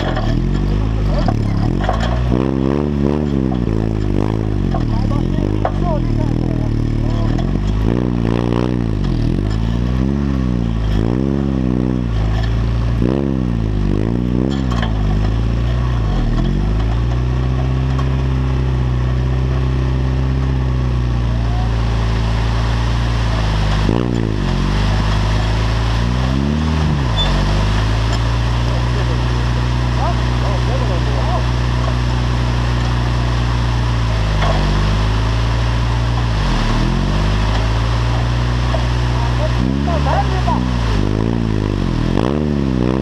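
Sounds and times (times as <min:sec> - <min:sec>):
buggy engine revving: 0:00.0 - 0:43.0.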